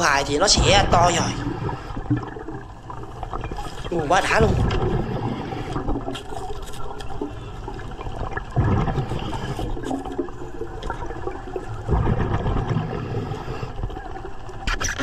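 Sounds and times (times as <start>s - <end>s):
underwater air bubbling: 0.0s - 15.0s.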